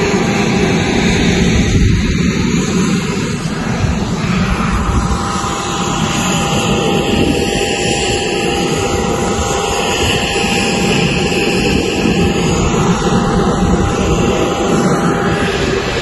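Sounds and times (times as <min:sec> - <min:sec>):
thin steady whine: 0:00.0 - 0:16.0
turbine engine rumble: 0:00.0 - 0:16.0.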